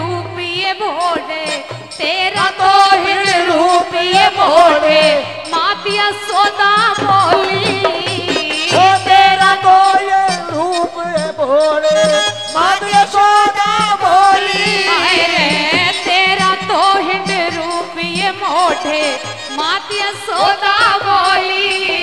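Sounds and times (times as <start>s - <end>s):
hand drum beat: 0.4s - 19.3s.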